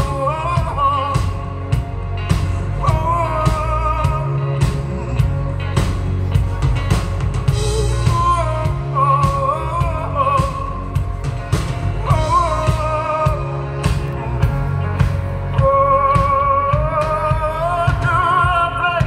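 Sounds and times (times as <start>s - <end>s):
person singing: 0.0s - 19.0s
rock band playing: 0.0s - 19.0s.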